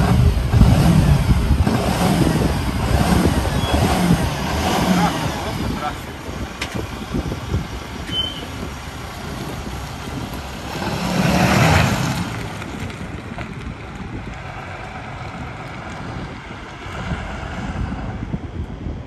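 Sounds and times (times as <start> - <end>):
vehicle driving: 0.0 - 19.0.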